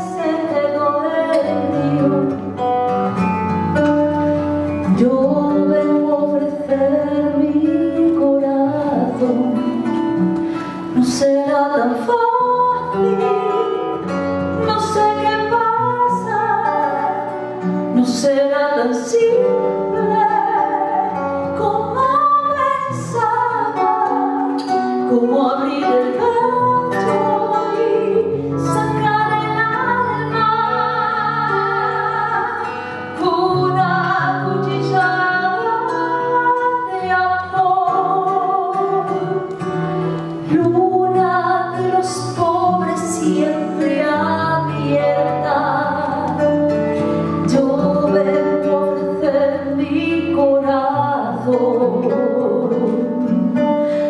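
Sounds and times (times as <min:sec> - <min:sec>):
woman singing into a microphone: 0:00.0 - 0:03.0, 0:03.8 - 0:54.0
acoustic guitar: 0:00.0 - 0:54.0.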